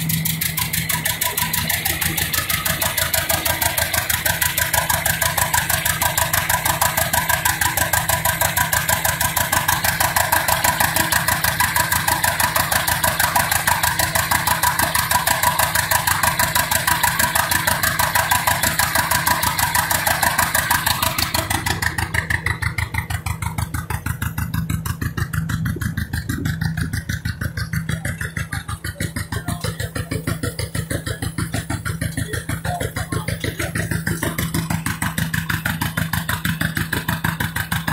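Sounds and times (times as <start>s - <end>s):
tractor engine exhaust beat: 0.0s - 37.9s.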